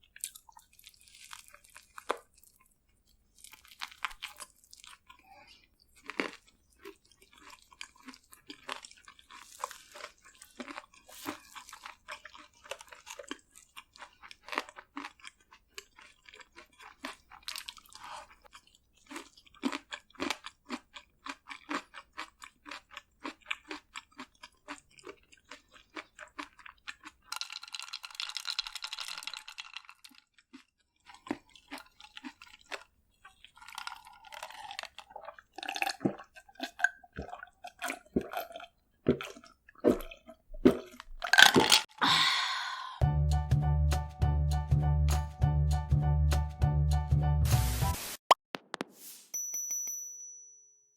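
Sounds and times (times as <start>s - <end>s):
crunching and chewing fried food: 0.0s - 42.0s.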